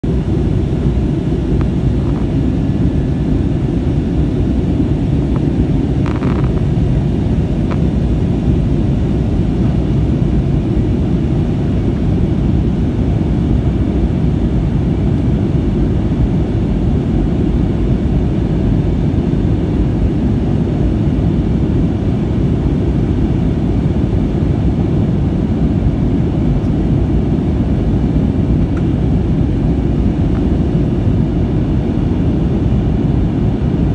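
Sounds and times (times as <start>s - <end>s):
aircraft cabin engine roar: 0.0s - 33.9s.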